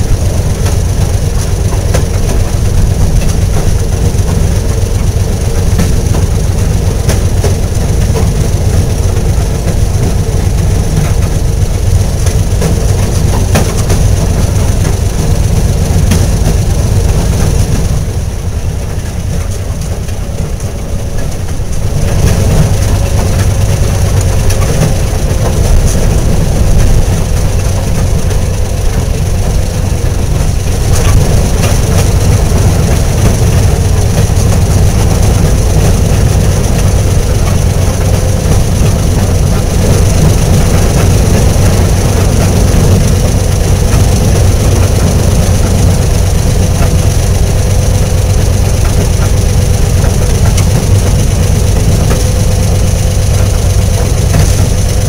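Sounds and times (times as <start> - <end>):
rail motorcar engine drone: 0.0 - 55.0
wheels clicking over rail joints: 0.0 - 55.0.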